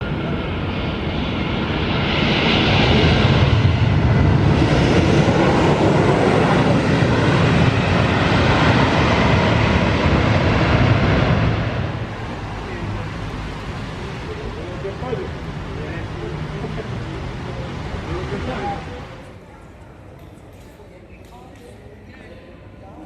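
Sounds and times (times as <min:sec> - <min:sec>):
jet airliner engines roaring: 0:00.0 - 0:19.4.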